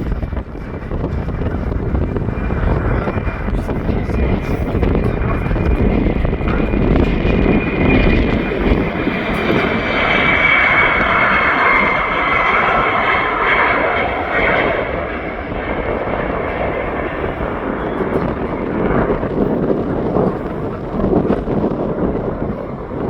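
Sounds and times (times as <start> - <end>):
high steady jet whine: 0.0 - 23.0
jet engine roar: 0.0 - 23.0.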